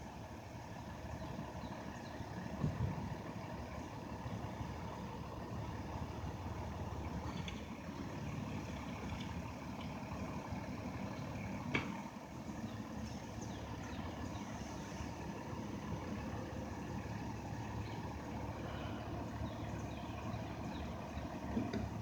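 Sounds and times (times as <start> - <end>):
garbage truck engine rumbling: 0.0 - 22.0.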